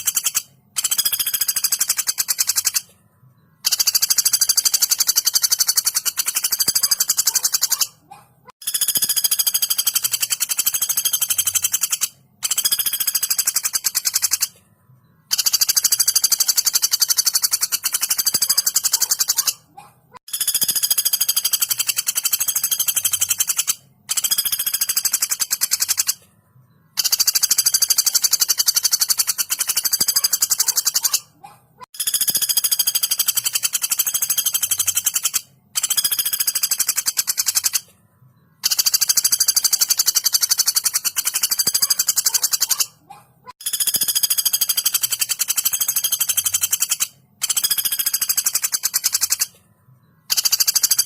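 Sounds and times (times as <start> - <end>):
woodpecker rattling calls: 0.0 - 2.9, 3.6 - 14.6, 15.2 - 26.2, 26.9 - 37.9, 38.6 - 49.6, 50.2 - 51.0.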